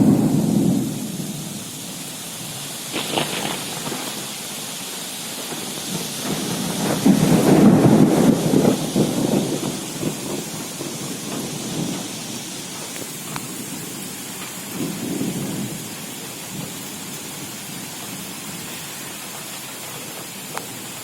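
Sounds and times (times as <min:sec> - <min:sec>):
heavy rain hissing: 0:00.0 - 0:21.0
thunder rumbling: 0:00.0 - 0:21.0.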